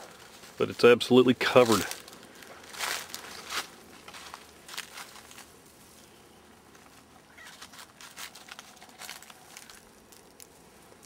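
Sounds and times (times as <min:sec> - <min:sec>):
branch rustling and crackling: 0:01.4 - 0:11.0.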